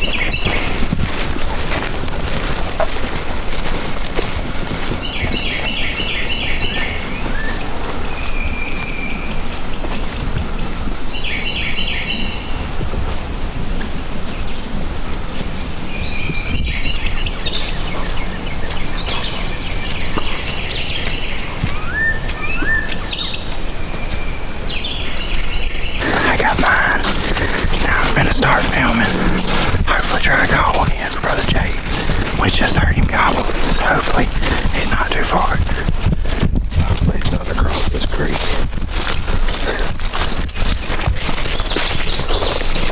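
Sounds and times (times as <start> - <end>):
low background noise: 0.0 - 42.9
songbirds singing: 0.0 - 42.9.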